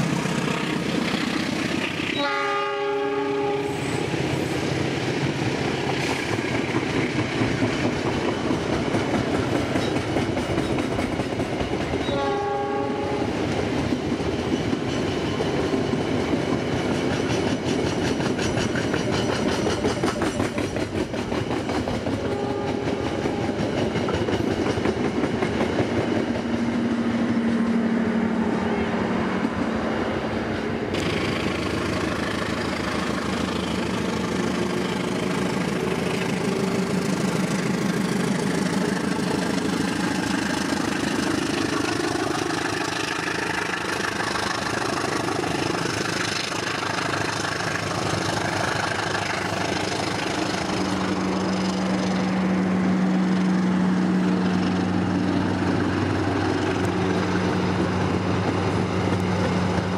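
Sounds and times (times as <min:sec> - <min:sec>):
train engine hum: 0:00.0 - 0:59.9.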